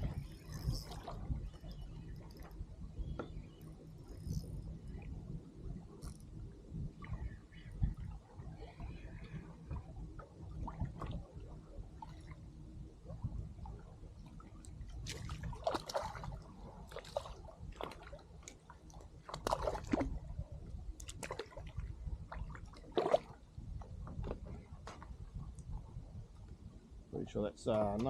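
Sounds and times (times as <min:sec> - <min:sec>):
water splashing around kayak: 0:00.0 - 0:06.2, 0:06.8 - 0:26.0.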